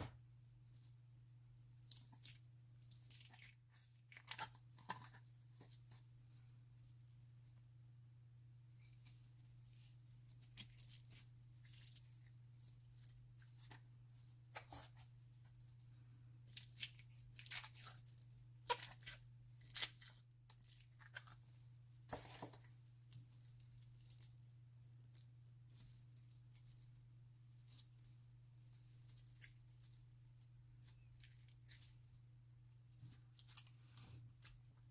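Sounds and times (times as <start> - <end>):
low electrical hum: 0.0 - 34.9.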